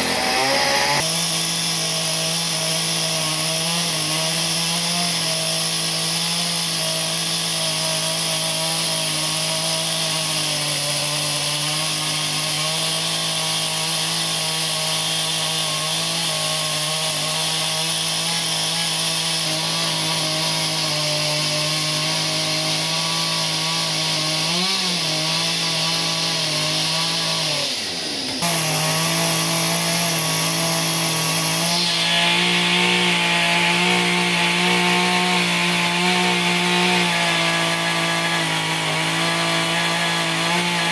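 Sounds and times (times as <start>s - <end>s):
hiss of cutting wood: 0.0s - 4.2s, 4.8s - 40.9s
chainsaw running at high throttle: 0.0s - 40.9s.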